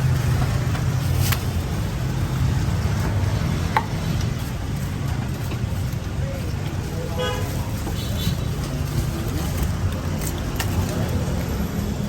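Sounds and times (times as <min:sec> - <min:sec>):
street traffic engine rumble: 0:00.0 - 0:12.0.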